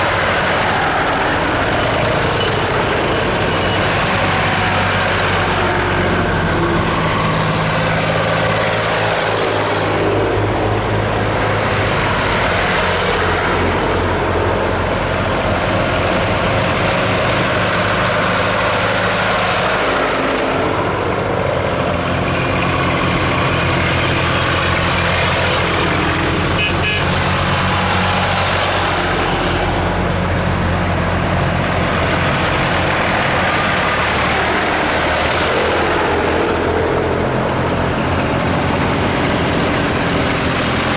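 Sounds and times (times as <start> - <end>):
vehicle engines idling and revving: 0.0 - 40.9.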